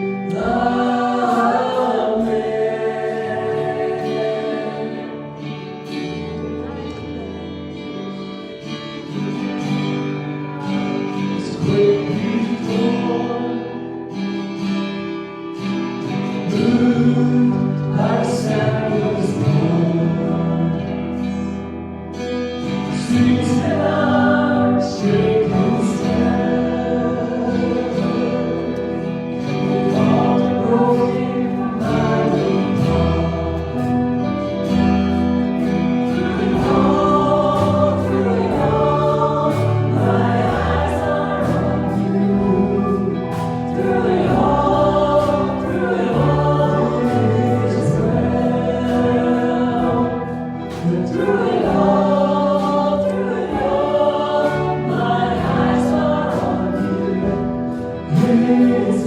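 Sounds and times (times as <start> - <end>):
choir singing gospel: 0.0 - 59.0
musical accompaniment: 0.0 - 59.0.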